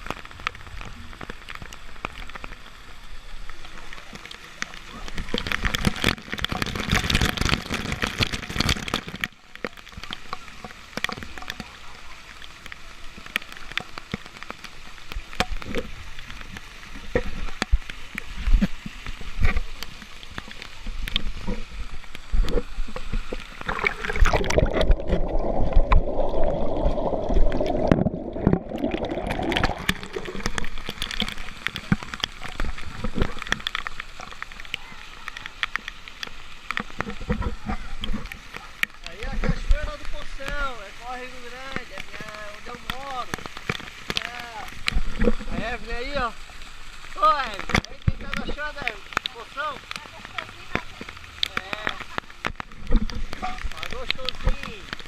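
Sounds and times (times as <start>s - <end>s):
waterfall rushing and splashing: 0.0s - 55.0s.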